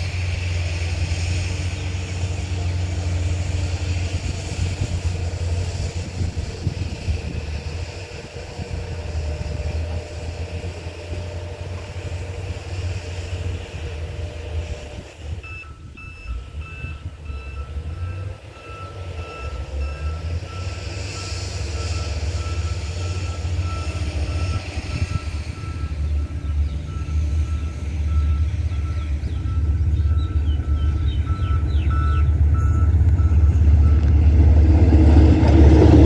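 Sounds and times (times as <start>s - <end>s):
railway crossing warning beeper: 2.5s - 36.0s.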